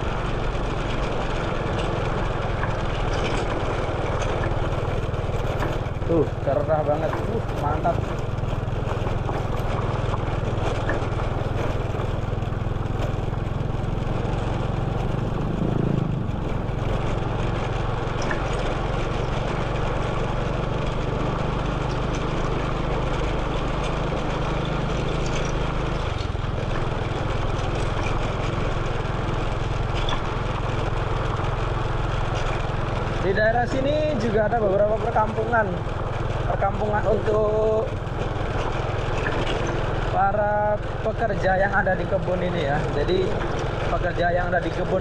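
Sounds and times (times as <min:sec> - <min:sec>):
motorcycle engine running: 0:00.0 - 0:45.0
road and wind noise: 0:00.0 - 0:45.0.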